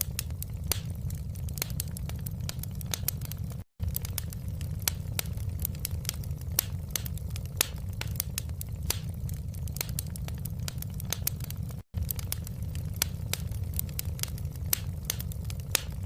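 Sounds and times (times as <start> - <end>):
low rumble of burning: 0.0 - 16.0
wood fire crackling and popping: 0.0 - 16.0.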